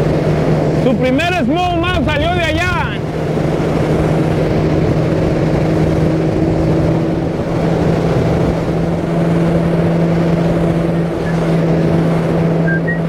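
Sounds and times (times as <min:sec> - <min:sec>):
hull rushing through water: 0:00.0 - 0:13.0
outboard motor droning: 0:00.0 - 0:13.0.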